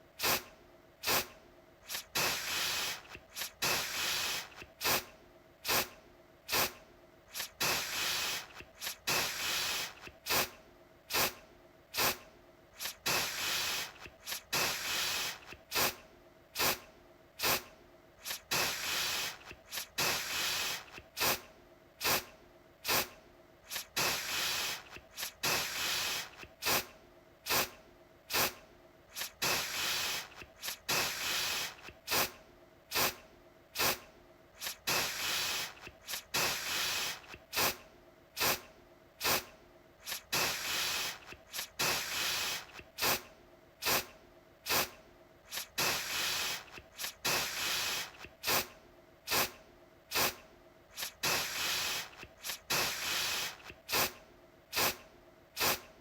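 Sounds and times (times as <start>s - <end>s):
aerosol can spraying: 0.2s - 11.4s, 12.0s - 12.2s, 12.8s - 16.0s, 16.6s - 16.8s, 17.4s - 21.4s, 22.0s - 26.9s, 27.5s - 33.2s, 33.8s - 34.0s, 34.6s - 37.8s, 38.4s - 44.1s, 44.7s - 48.7s, 49.3s - 55.0s, 55.6s - 55.9s.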